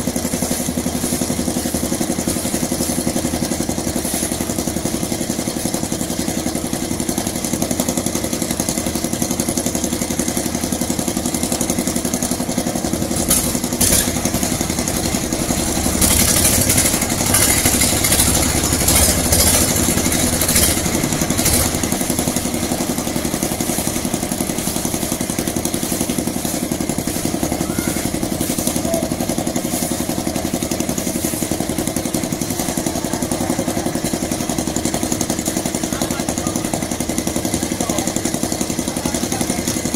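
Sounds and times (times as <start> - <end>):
clattering hissing machinery: 0.0 - 39.9
small engine running: 0.0 - 39.9.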